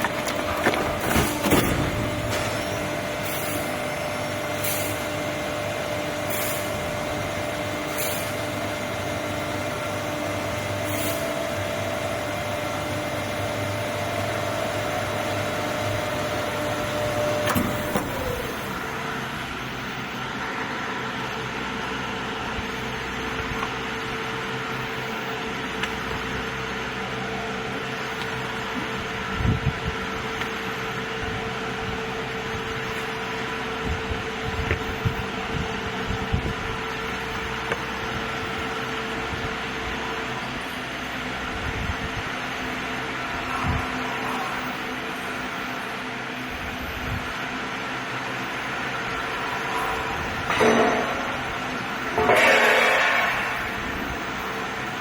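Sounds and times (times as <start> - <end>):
hydraulic pump humming: 0.0 - 55.0.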